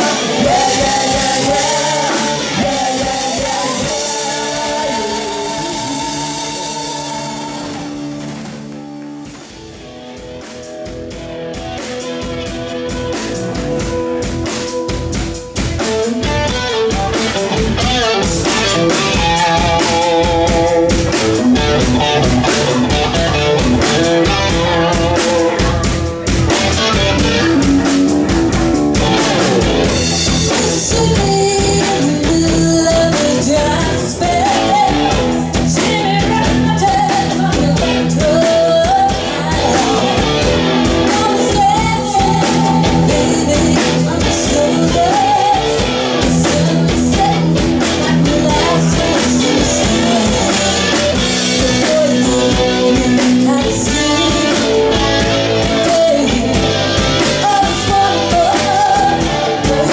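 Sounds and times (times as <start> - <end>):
bass guitar: 0.0 - 59.9
driving drums: 0.0 - 59.9
electric guitars: 0.0 - 59.9.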